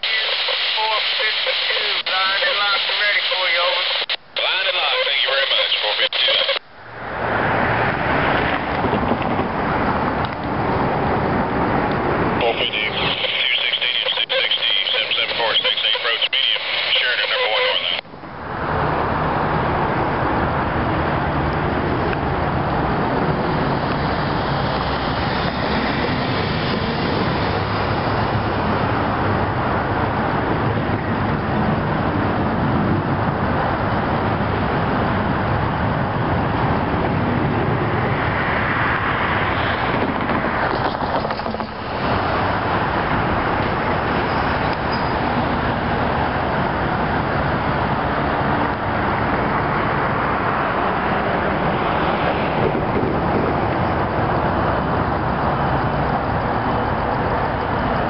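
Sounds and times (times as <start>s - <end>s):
diesel locomotives rumbling: 6.8s - 16.6s, 17.8s - 58.0s.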